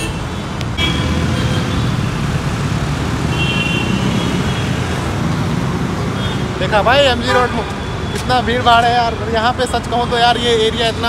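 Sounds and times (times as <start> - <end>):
city road traffic: 0.0 - 11.0.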